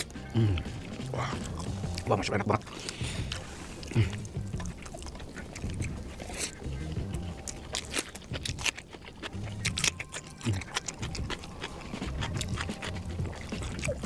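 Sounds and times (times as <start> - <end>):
person chewing with smacks: 0.0 - 14.0.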